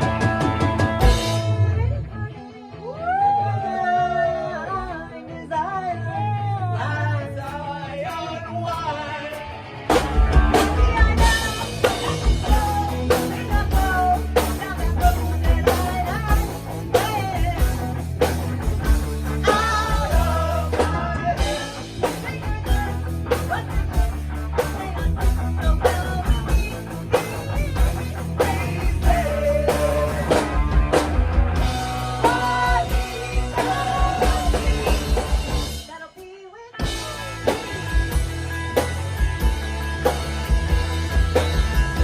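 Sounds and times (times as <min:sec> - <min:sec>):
sung vocals: 0:00.0 - 0:39.7
live rock band playing: 0:00.0 - 0:42.0.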